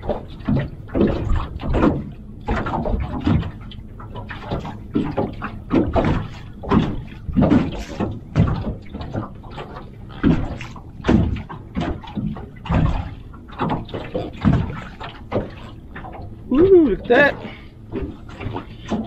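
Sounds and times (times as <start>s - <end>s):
water slapping against boat hull: 0.0s - 19.0s.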